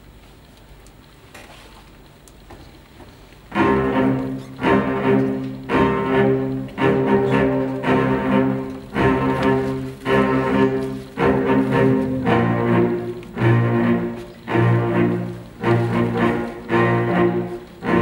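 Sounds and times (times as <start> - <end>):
quiet hall noise: 0.0 - 18.0
string ensemble bowed chords: 3.5 - 18.0.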